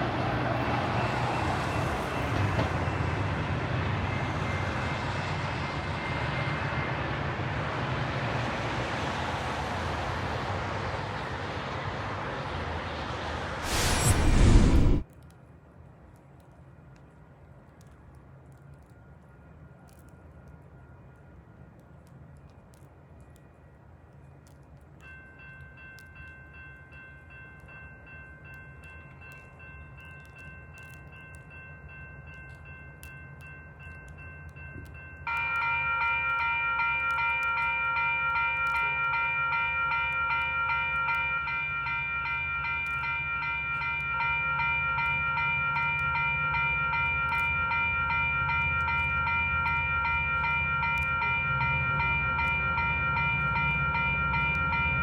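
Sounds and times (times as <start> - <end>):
crossing warning bells ringing: 0.0 - 15.0, 25.0 - 55.0
train rumbling: 0.0 - 15.1, 24.5 - 55.0.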